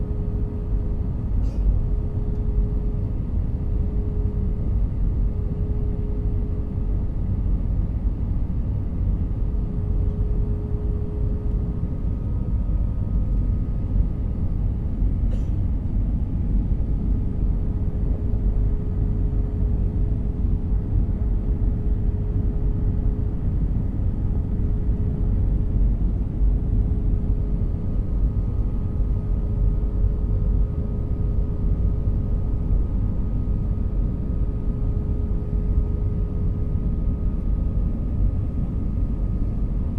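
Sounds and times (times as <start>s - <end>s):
airliner cabin rumble: 0.0s - 39.9s
faint steady hum: 0.0s - 39.9s.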